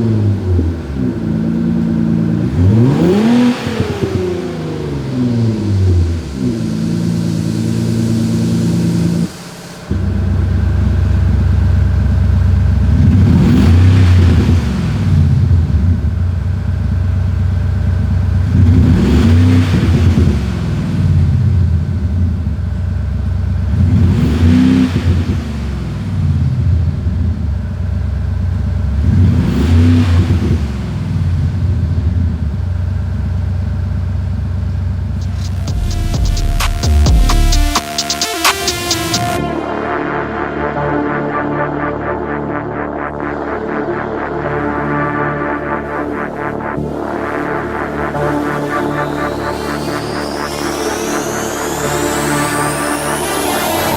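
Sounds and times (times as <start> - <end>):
synthesized exhaust idling and revving: 0.0 - 53.9.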